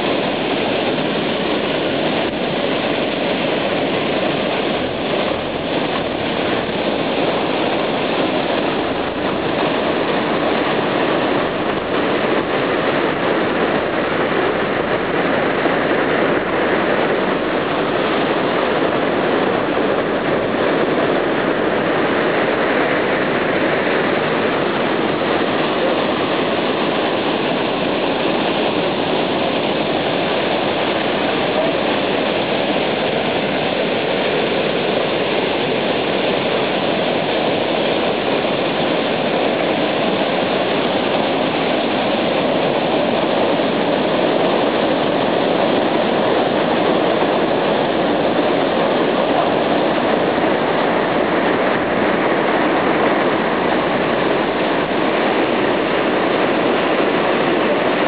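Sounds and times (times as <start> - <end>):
waterfall rushing over boulders: 0.0 - 58.0.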